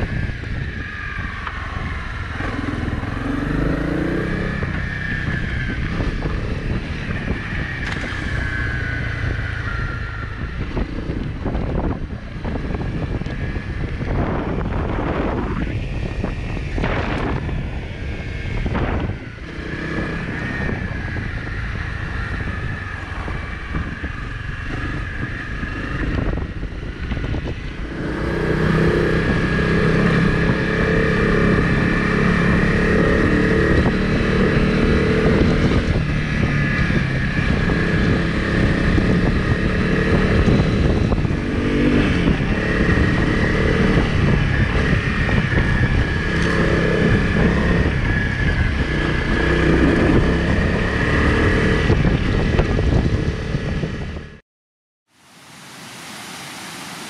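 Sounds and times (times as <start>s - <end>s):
motorcycle engine revving: 0.0s - 54.4s
wind noise on microphone: 0.0s - 54.4s.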